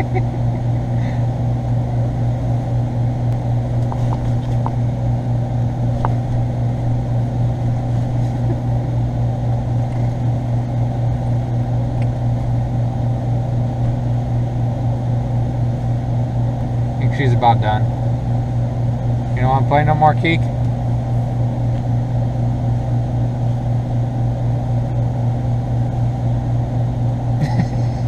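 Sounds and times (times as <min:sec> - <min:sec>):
motor humming: 0:00.0 - 0:28.0.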